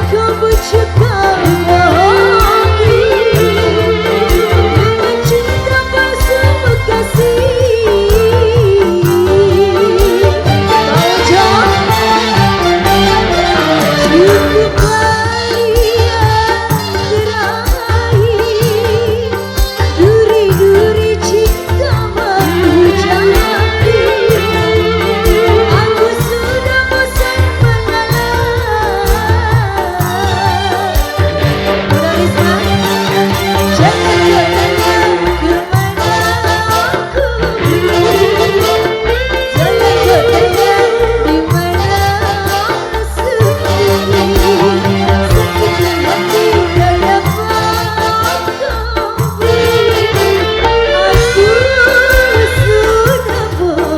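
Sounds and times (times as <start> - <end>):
live band playing: 0.0 - 53.9
steady drum beat: 0.0 - 53.9
wavering lead melody: 0.0 - 53.9.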